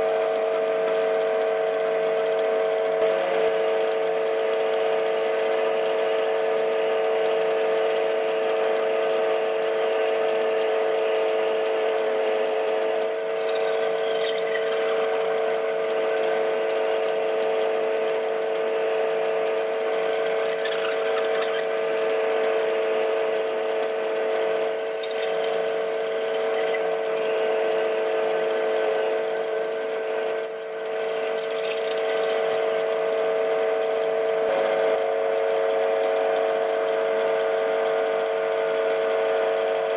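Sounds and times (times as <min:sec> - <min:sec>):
high-pitched drill squeal: 0:00.0 - 0:39.9
lathe whine: 0:00.0 - 0:39.9.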